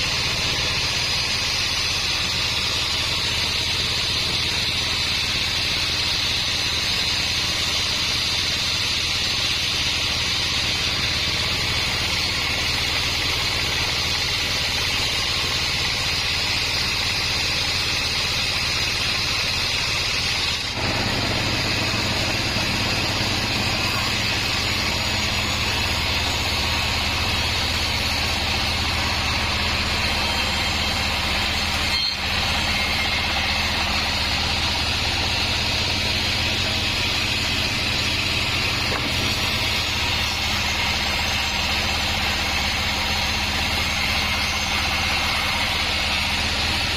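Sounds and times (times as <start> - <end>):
band sawmill running: 0.0 - 46.9.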